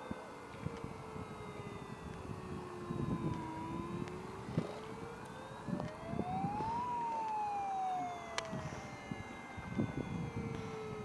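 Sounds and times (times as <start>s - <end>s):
model boat motor whine: 0.0s - 11.0s.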